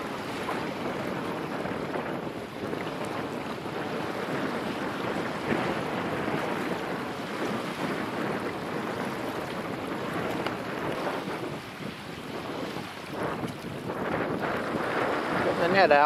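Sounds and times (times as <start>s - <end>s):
waves slapping: 0.0s - 16.0s
wind on microphone: 0.0s - 16.0s.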